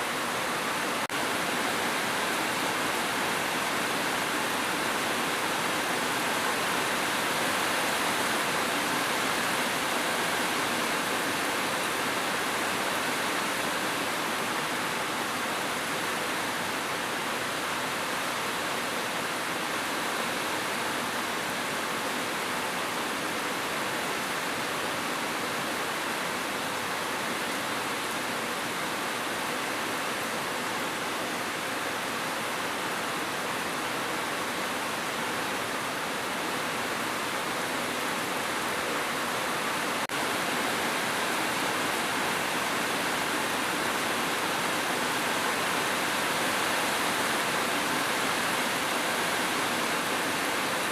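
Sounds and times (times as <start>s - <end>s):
steady rainfall: 0.0s - 50.9s.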